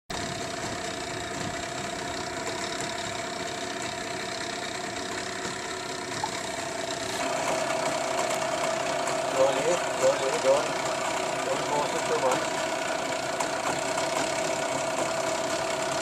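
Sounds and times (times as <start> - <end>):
engine running steadily: 0.1 - 16.0.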